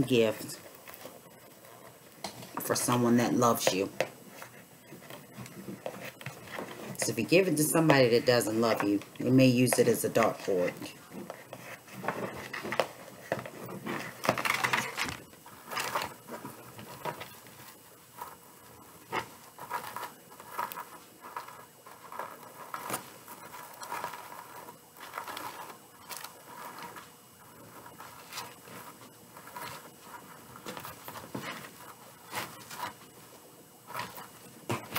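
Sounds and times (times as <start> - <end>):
rustling and crinkling mesh: 0.0 - 34.9.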